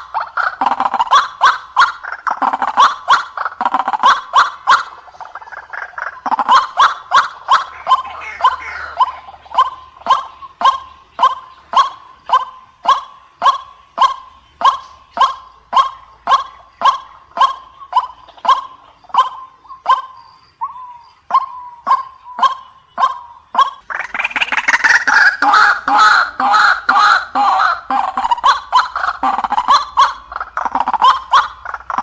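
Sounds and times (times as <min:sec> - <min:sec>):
bird calling sharp notes: 0:00.0 - 0:32.0
harsh jumble of bird calls: 0:00.0 - 0:32.0.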